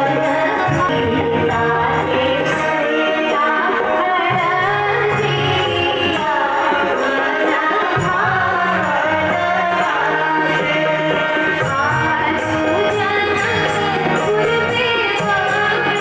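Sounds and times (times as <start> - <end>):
harmonium: 0.0 - 16.0
tabla: 0.0 - 16.0
woman singing: 0.0 - 16.0.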